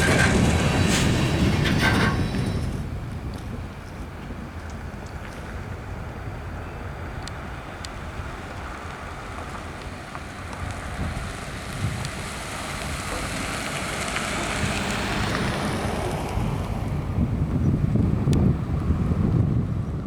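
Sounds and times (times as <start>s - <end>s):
freight train rumbling: 0.0s - 20.0s
wind buffeting microphone: 0.0s - 20.0s.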